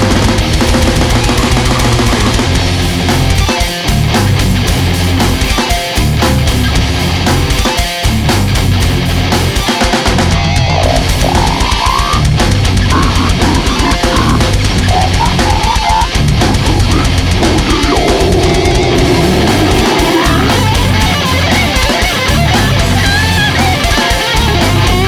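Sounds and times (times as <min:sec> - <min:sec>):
drum kit: 0:00.0 - 0:25.0
heavy distorted guitars: 0:00.0 - 0:25.0.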